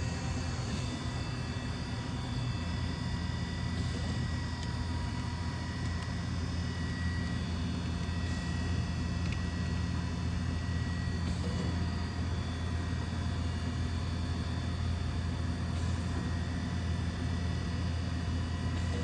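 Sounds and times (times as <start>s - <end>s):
machining centre humming and whining: 0.0s - 19.0s.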